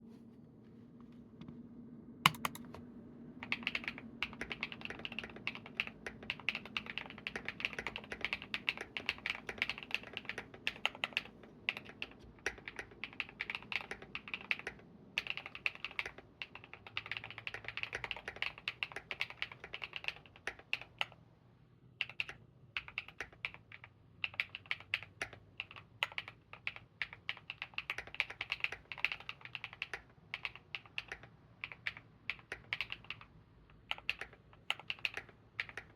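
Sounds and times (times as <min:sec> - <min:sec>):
mechanical keyboard typing: 0:02.3 - 0:02.8, 0:03.4 - 0:21.2, 0:22.0 - 0:35.9.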